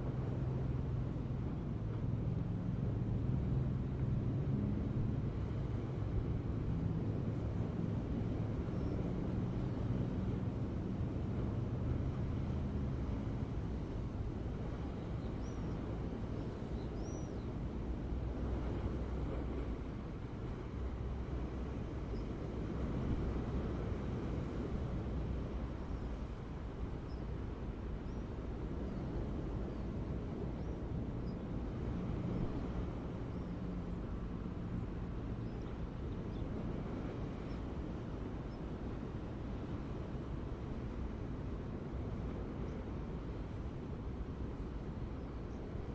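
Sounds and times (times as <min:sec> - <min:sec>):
ocean surf rumble: 0:00.0 - 0:45.9.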